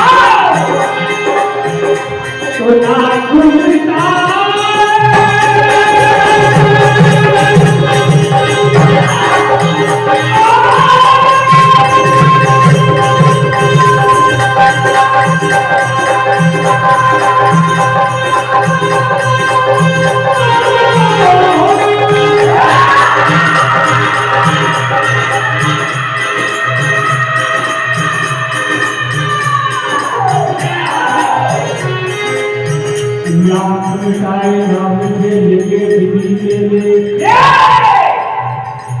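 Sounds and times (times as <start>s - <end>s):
hand drum beat: 0.0s - 35.5s.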